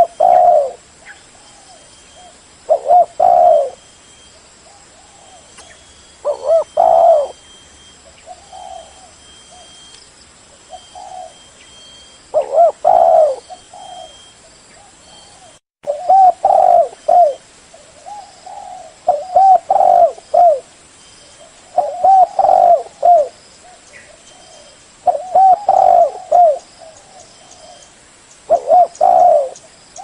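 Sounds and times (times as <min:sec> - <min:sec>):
dove cooing: 0:00.0 - 0:04.0, 0:04.7 - 0:09.8, 0:10.6 - 0:20.7, 0:21.3 - 0:27.9, 0:28.5 - 0:30.0.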